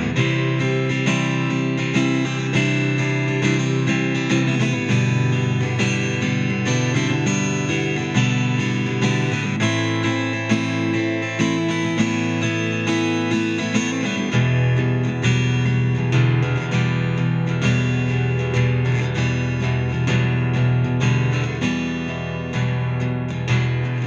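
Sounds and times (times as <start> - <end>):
guitar strumming chords: 0.0 - 24.0.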